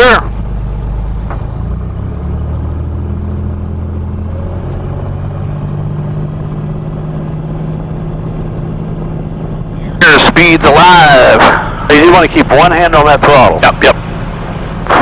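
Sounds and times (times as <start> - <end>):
propeller plane engine drone: 0.0 - 15.0.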